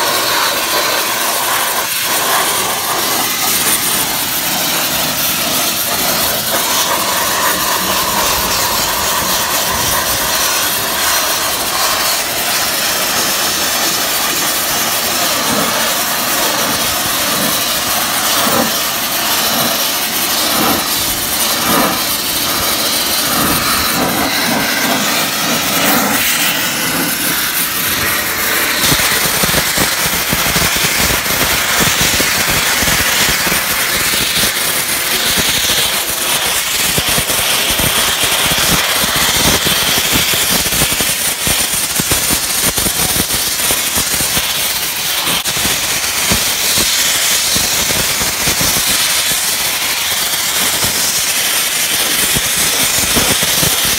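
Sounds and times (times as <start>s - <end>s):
abrasive blaster hissing: 0.0s - 53.9s.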